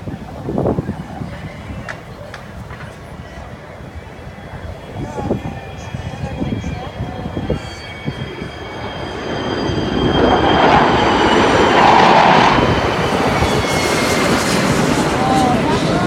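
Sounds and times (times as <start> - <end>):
military jets passing overhead: 0.0 - 16.0.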